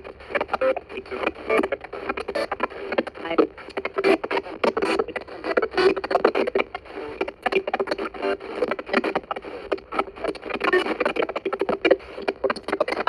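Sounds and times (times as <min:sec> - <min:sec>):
faint radio noise: 0:00.0 - 0:13.0
radio sweeping through stations: 0:00.0 - 0:13.0.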